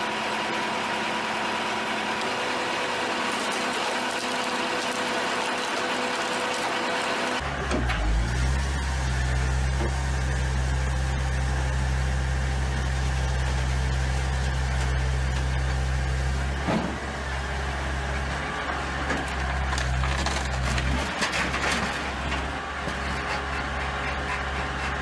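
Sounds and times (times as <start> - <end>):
machine engine humming: 0.0 - 25.0.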